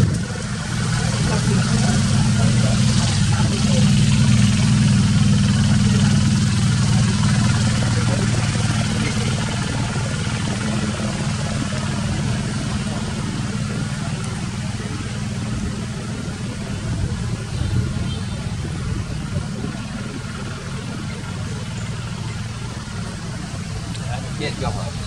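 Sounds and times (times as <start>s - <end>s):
engine running with low hum: 0.0s - 25.0s.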